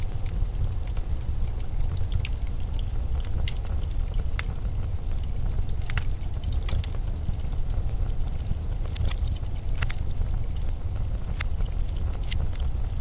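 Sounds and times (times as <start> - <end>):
small sharp crackles: 0.0 - 13.0.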